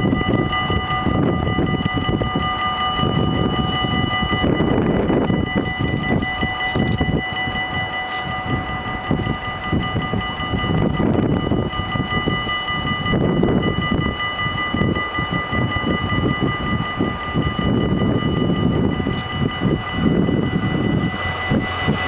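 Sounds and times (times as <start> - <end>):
level crossing warning bells: 0.0 - 22.0.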